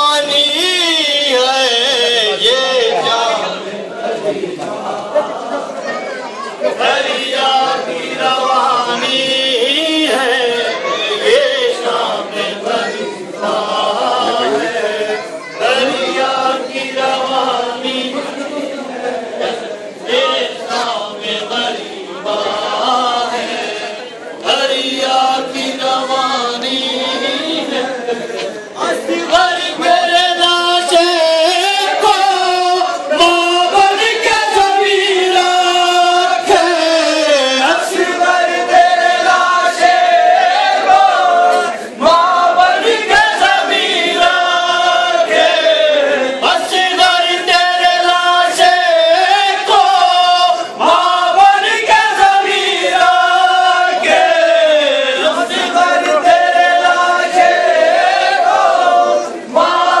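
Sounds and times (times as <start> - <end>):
crowd singing mournfully: 0.0 - 60.0.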